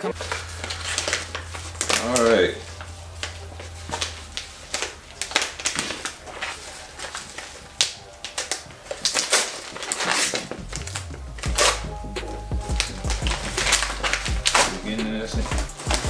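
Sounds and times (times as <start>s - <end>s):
paper mailer tearing and crinkling: 0.0s - 16.0s.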